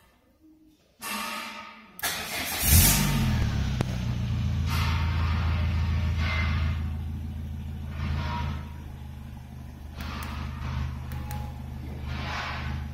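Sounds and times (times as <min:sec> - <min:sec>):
engine starting and idling: 0:02.0 - 0:12.9.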